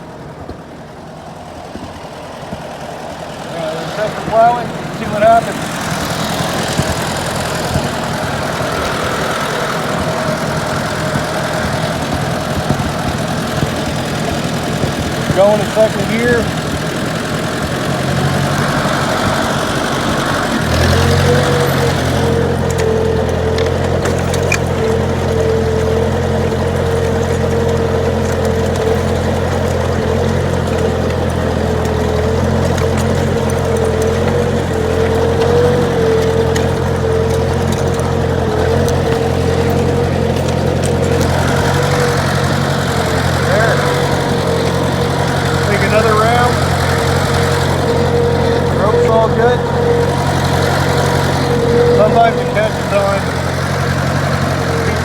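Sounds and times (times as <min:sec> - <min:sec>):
tractor engine running: 0:00.0 - 0:55.0
steady whine: 0:01.4 - 0:55.0.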